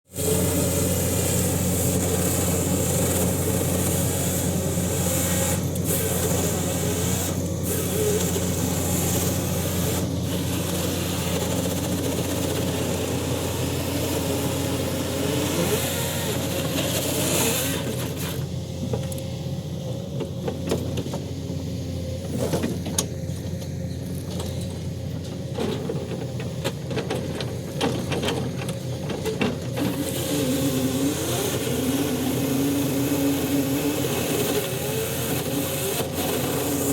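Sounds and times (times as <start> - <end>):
heavy machine engine running: 0.1 - 36.9.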